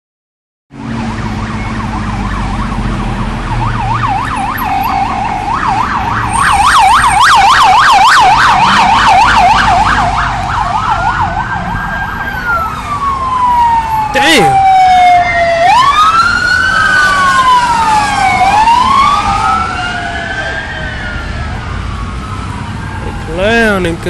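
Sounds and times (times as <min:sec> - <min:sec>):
police sirens: 0:00.8 - 0:24.0
traffic rumble: 0:00.8 - 0:24.0.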